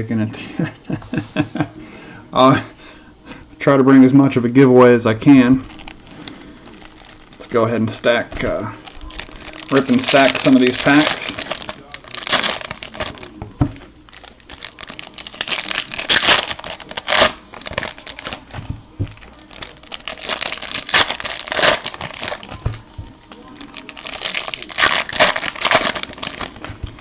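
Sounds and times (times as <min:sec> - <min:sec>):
card pack wrappers crinkling: 0:05.2 - 0:27.0.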